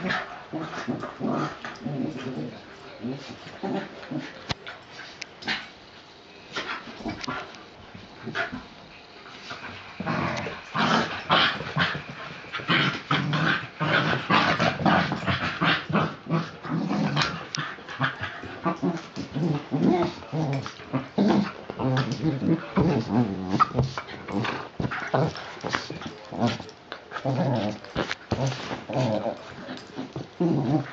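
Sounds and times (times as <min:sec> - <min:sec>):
small dogs growling: 0:00.0 - 0:04.5, 0:10.0 - 0:30.9.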